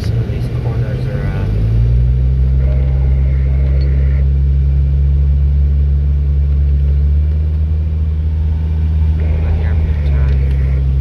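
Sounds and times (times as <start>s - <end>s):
car interior engine drone: 0.0s - 11.0s.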